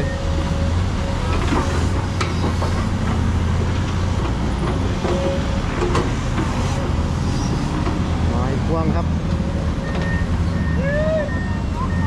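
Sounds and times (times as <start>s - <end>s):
dump truck engine rumbling: 0.0s - 12.0s.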